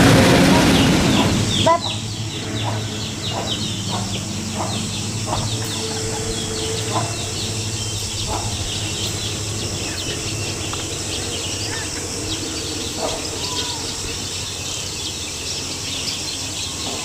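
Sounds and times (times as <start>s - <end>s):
birds chirping: 0.0s - 17.0s
steady low hum: 0.0s - 17.0s
low short bird calls: 0.7s - 17.0s.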